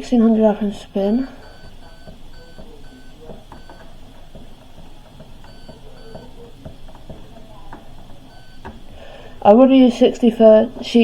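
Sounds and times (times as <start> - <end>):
washing machine control panel beeps: 0.0 - 11.0.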